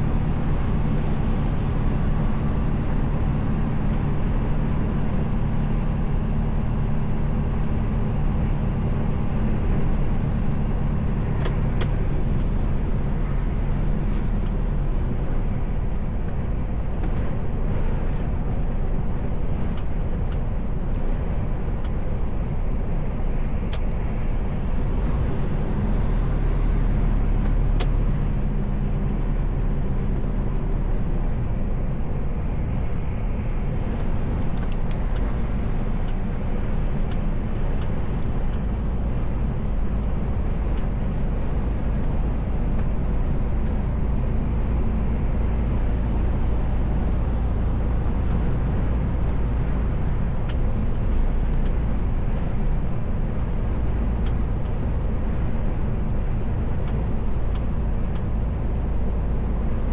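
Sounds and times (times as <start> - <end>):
diesel engine drone: 0.0 - 59.9
road noise: 0.0 - 59.9.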